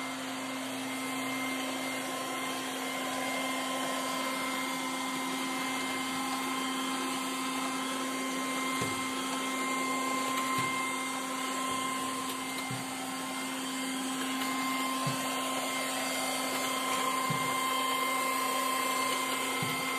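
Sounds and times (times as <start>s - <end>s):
robot vacuum cleaner whirring: 0.0s - 19.9s.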